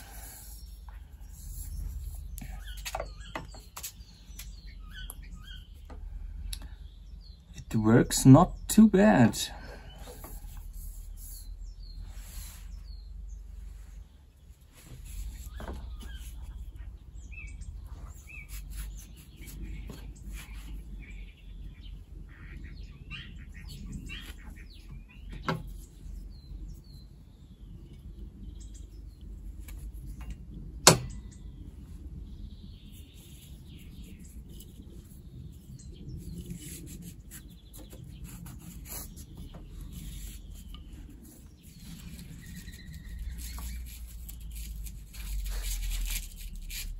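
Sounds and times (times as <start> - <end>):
faint bird chirps: 0.0 - 7.7, 9.7 - 30.2, 31.1 - 46.1.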